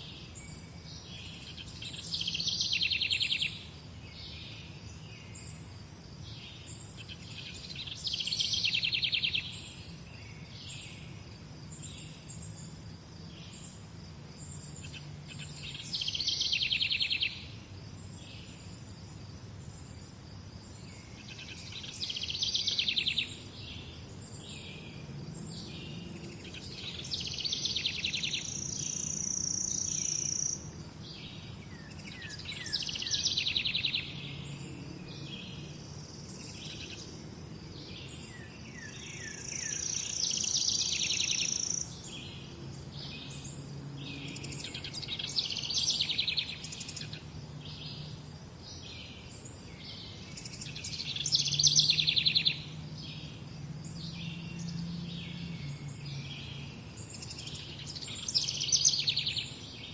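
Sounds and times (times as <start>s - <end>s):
soft bird chirps: 0.0s - 59.9s.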